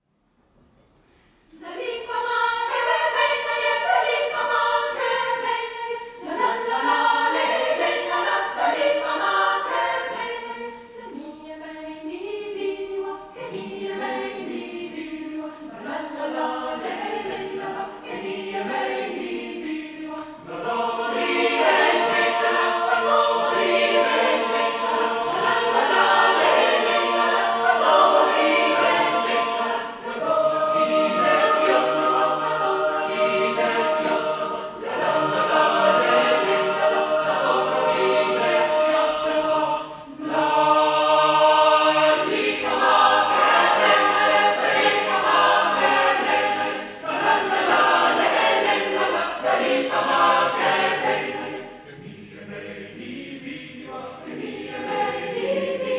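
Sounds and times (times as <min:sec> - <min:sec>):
mixed choir singing unaccompanied: 0:01.5 - 0:55.9.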